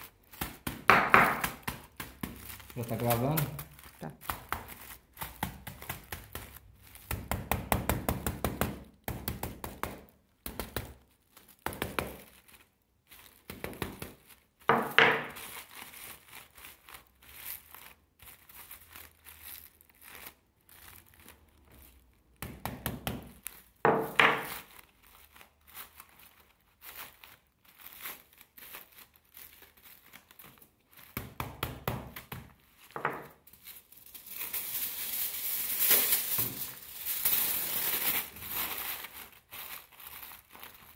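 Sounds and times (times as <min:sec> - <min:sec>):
aluminium foil crinkling: 0:00.0 - 0:31.4, 0:32.1 - 0:40.9.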